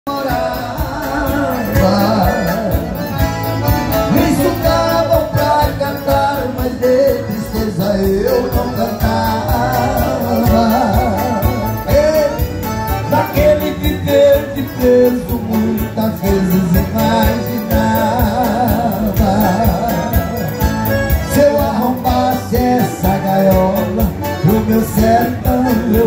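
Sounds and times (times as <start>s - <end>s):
men singing into microphones: 0.1s - 26.0s.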